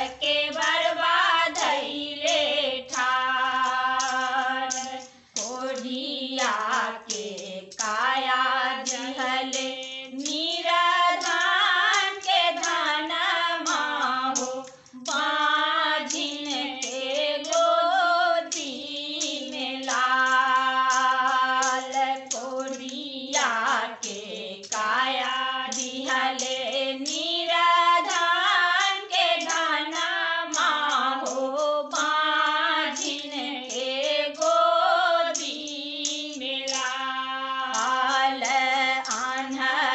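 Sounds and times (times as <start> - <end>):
women singing folk song: 0.0 - 39.9.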